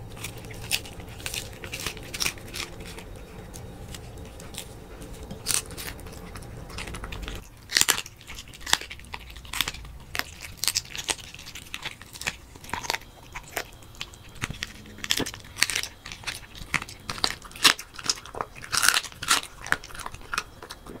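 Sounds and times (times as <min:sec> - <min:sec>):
dog crunching bone: 0:00.0 - 0:21.0.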